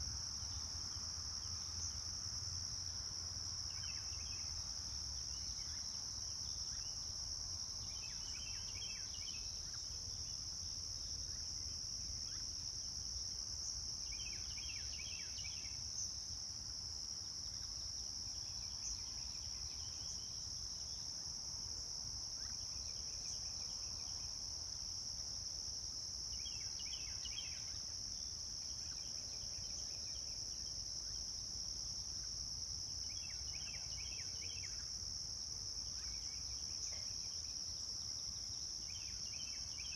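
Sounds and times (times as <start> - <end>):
high-pitched insect chorus: 0.0 - 39.9
insect rapid chirps: 0.0 - 39.9.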